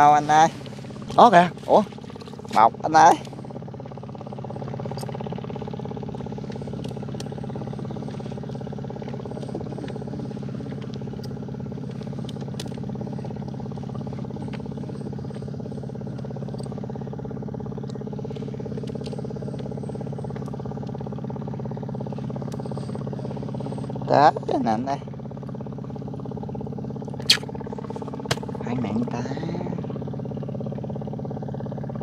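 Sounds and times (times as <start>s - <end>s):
small boat engine running: 0.0s - 32.0s.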